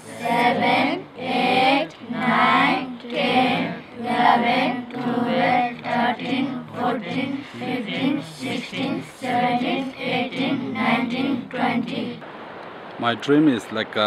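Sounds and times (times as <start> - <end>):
children and woman counting aloud: 0.0 - 12.2.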